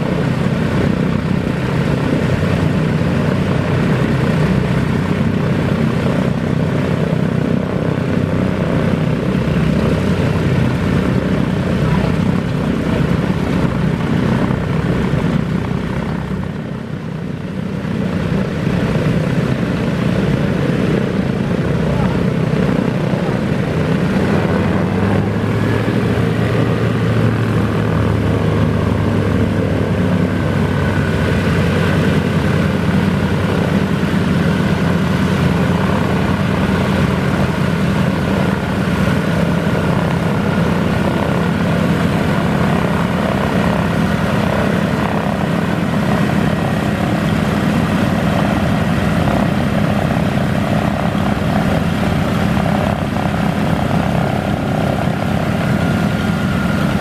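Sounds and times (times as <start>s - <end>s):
propeller engines droning: 0.0s - 57.0s.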